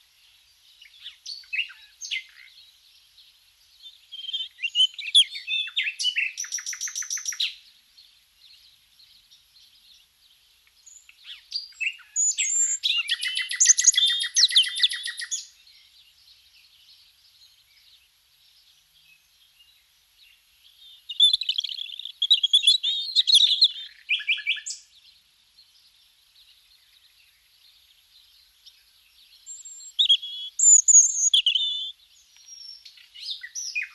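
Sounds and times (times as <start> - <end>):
soft bird chirps: 0.0 - 33.9
songbird singing with trills: 0.0 - 33.9.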